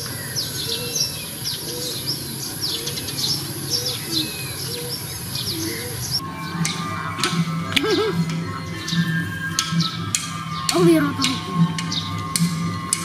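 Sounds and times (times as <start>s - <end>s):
high downward-sweeping bird chirps: 0.0s - 13.0s
low bird call: 0.0s - 13.0s.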